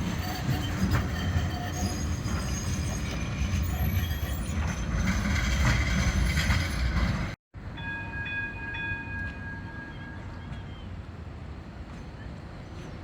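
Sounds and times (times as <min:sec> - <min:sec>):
tram rumbling along track: 0:00.0 - 0:13.0.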